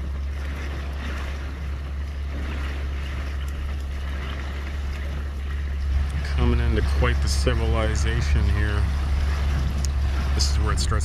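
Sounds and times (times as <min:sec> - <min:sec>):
boat motor humming: 0:00.0 - 0:11.0
water noise: 0:00.0 - 0:11.0.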